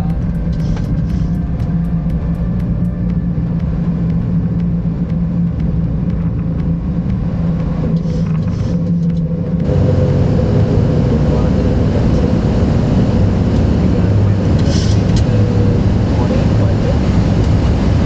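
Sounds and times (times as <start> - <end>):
aircraft cockpit rumble: 0.0 - 18.0.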